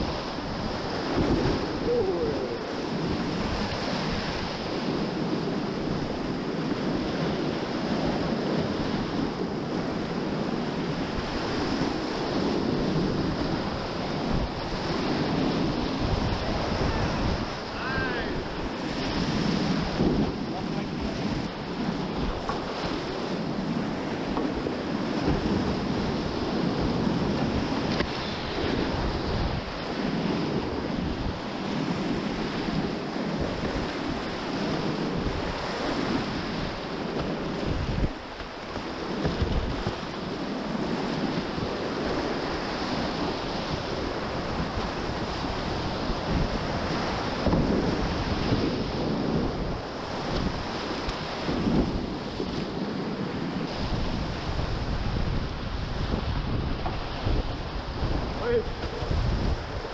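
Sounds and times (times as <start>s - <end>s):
whitewater rushing and splashing: 0.0s - 59.9s
wind buffeting microphone: 0.0s - 59.9s.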